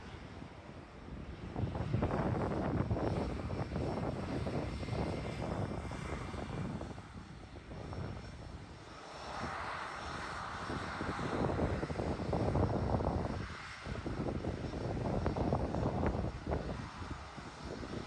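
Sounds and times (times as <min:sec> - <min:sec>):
high jet engine whine: 0:00.0 - 0:18.0
jet engines rumbling: 0:00.0 - 0:18.0.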